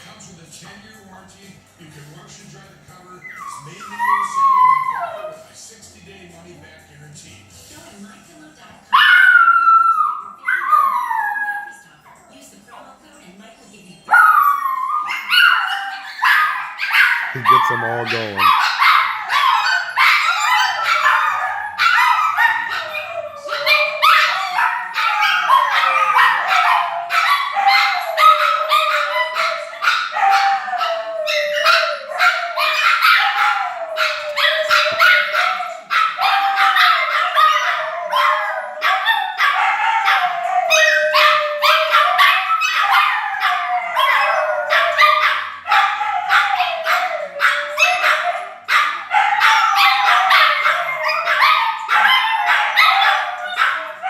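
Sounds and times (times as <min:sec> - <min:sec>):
dogs howling: 0:03.0 - 0:05.5, 0:08.9 - 0:12.0, 0:14.1 - 0:17.7, 0:18.4 - 0:54.0
dogs barking and yipping: 0:03.2 - 0:05.5, 0:08.9 - 0:11.7, 0:14.1 - 0:54.0.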